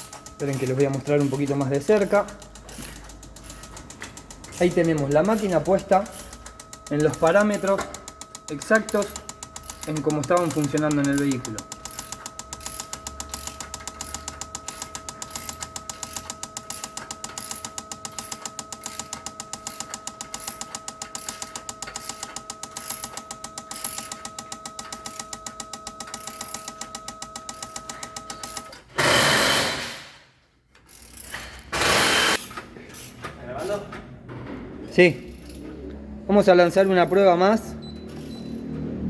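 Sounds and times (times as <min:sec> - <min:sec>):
fuel injectors clicking: 0:00.0 - 0:29.7, 0:34.9 - 0:39.0.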